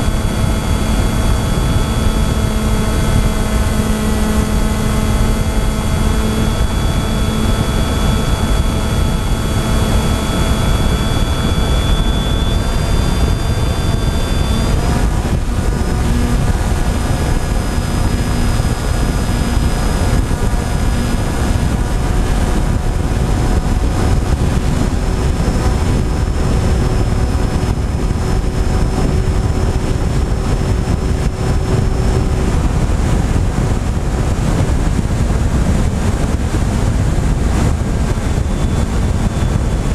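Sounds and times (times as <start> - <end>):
small aircraft motor whining: 0.0 - 39.9
wind rush: 0.0 - 39.9.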